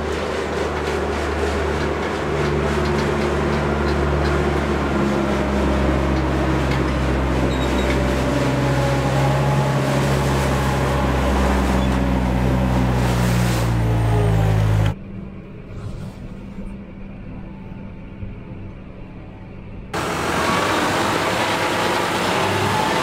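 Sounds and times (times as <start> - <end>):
diesel engine running: 0.0 - 16.8, 19.2 - 23.0.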